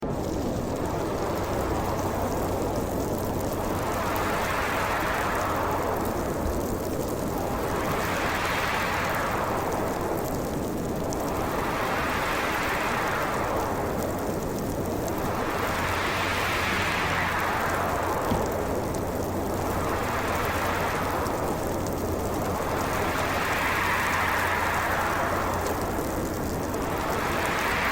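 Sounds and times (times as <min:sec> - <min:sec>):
howling wind: 0:00.0 - 0:27.9.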